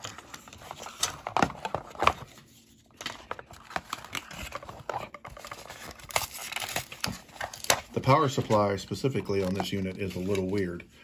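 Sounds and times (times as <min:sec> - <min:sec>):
cardboard and plastic handling: 0:00.0 - 0:10.8.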